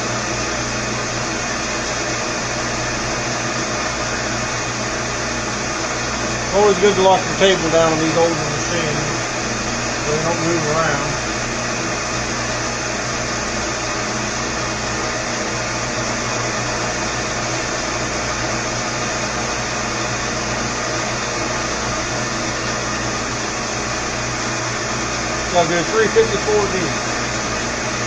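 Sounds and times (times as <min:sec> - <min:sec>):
milling machine running: 0:00.0 - 0:28.0.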